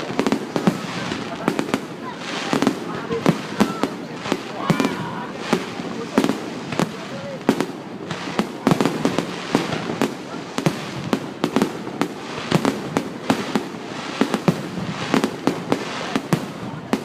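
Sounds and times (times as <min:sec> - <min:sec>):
background noise: 0:00.0 - 0:17.0
fireworks bangs: 0:00.0 - 0:17.0.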